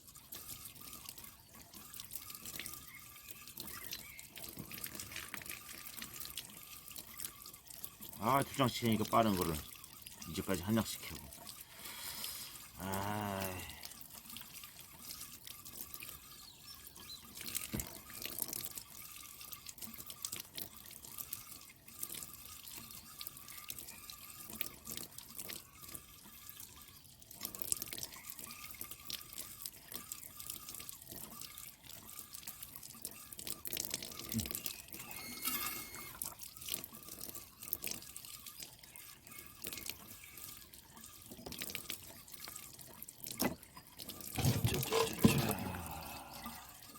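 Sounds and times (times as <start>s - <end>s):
small splashes and clicks: 0.0s - 12.9s, 13.8s - 35.1s, 36.1s - 46.9s
water running and dripping: 0.0s - 46.9s.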